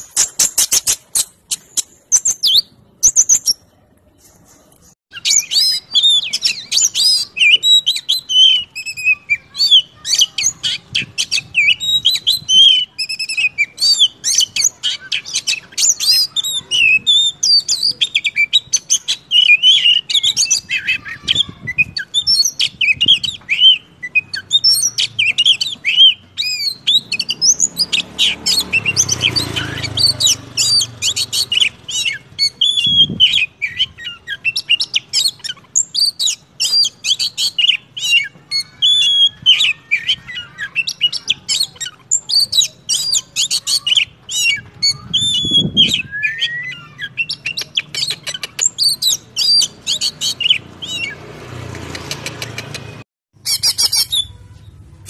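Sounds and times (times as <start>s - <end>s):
magpie-robin singing: 0.0s - 3.7s, 5.1s - 54.4s.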